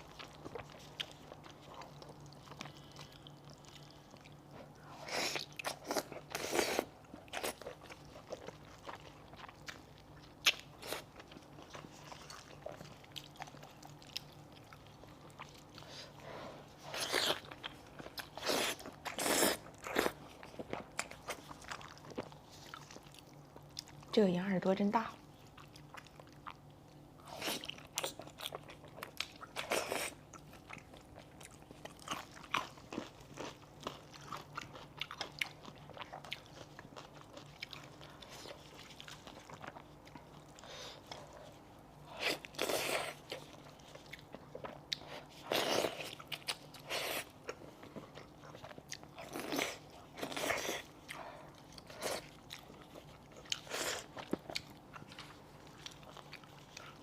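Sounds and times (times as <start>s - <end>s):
person chewing crunchy cartilage: 0.0s - 24.1s, 25.2s - 57.0s.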